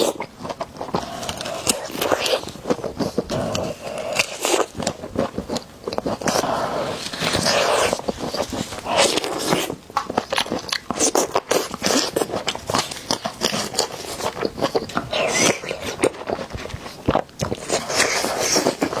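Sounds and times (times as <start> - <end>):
crunchy bites and chewing: 0.0 - 19.0.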